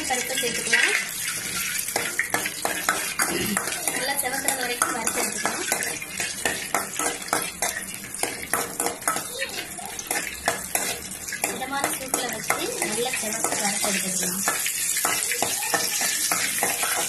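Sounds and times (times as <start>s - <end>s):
frying sizzle: 0.0s - 17.0s
metal spoon scraping a pan: 0.0s - 17.0s.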